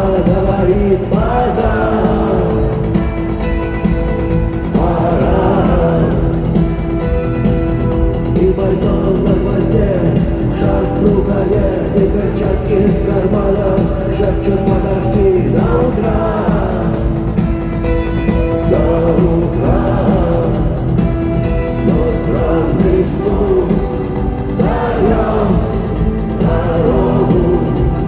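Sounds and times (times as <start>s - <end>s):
person singing: 0.0s - 3.5s, 4.6s - 7.1s, 8.3s - 17.5s, 18.6s - 28.0s
rock band playing live: 0.0s - 28.0s.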